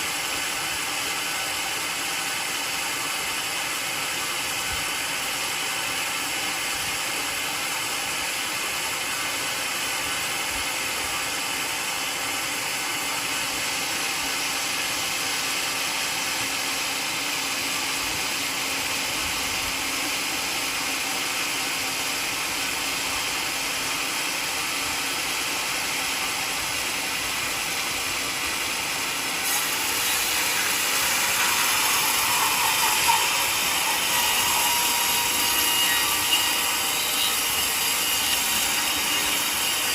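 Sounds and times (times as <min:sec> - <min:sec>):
saw blade cutting log: 0:00.0 - 0:39.9
sawmill running: 0:00.0 - 0:39.9.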